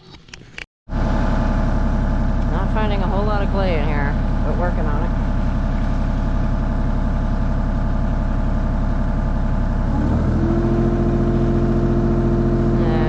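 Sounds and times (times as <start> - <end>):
excavator engine running: 0.9 - 13.0
steady higher hum: 0.9 - 13.0.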